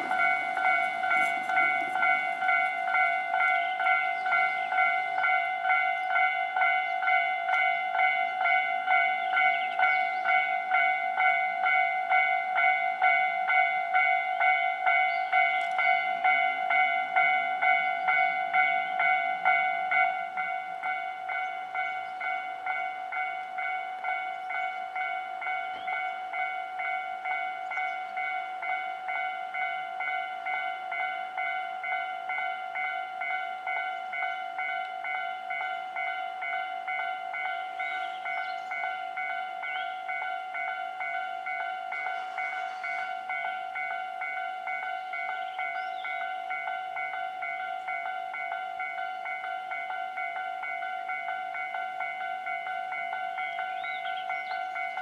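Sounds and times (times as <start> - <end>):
level crossing alarm bell: 0.0 - 55.0.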